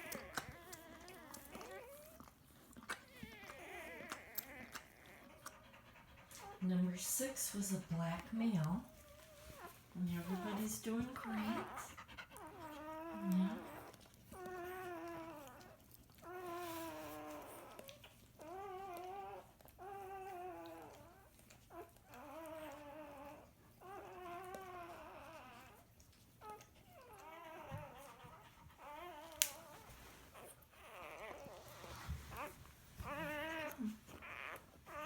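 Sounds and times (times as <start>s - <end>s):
puppy whimpering: 0.0s - 6.7s, 7.5s - 35.0s.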